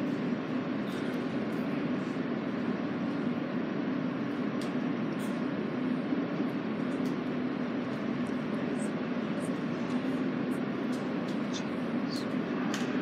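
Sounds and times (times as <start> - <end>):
subway car equipment humming: 0.0 - 13.0.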